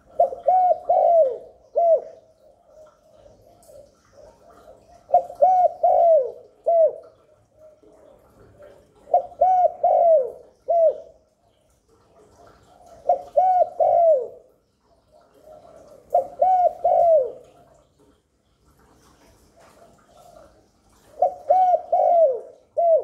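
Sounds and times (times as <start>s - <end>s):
dove cooing: 0.0s - 11.2s, 12.6s - 14.5s, 15.1s - 17.7s, 19.6s - 23.0s.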